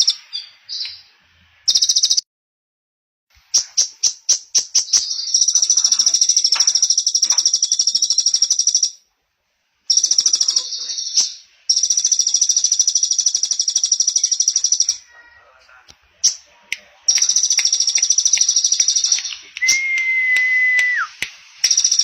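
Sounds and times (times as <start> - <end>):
songbird chirping and trilling: 0.0 - 2.2, 3.3 - 9.1, 9.8 - 22.0.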